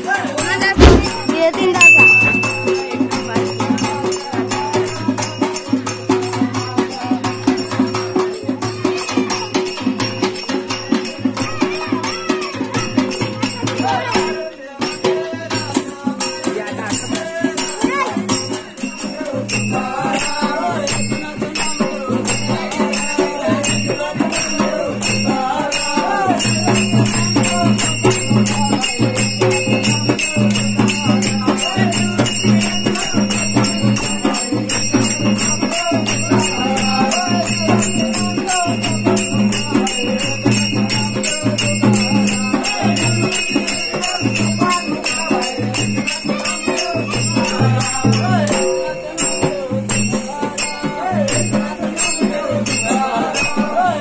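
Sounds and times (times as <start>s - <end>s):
jingling bells: 0.0s - 54.0s
voices singing: 0.0s - 54.0s
hand cymbals clashing: 0.6s - 15.1s, 16.3s - 53.8s.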